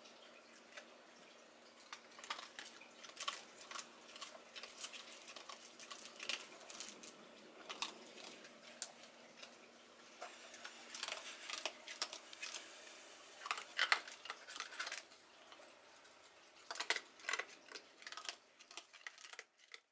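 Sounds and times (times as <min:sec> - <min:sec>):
animal crunching dry kibble: 0:01.8 - 0:09.6, 0:10.4 - 0:15.8, 0:16.6 - 0:19.9.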